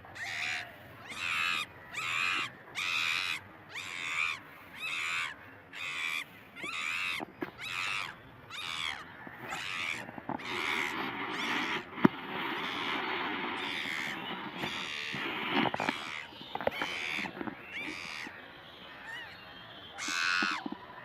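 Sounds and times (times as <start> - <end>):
rapid repeated animal calls: 0.0 - 18.4, 19.0 - 20.8.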